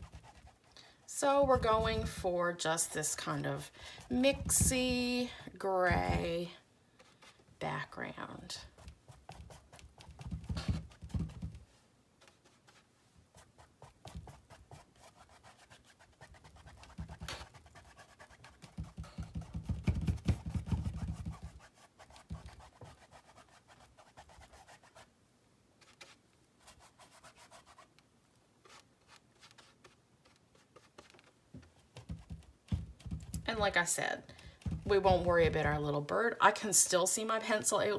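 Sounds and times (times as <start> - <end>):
paintbrush scratching on canvas: 0.0 - 7.4, 8.7 - 11.6, 12.2 - 25.1, 25.8 - 28.0, 28.6 - 35.9.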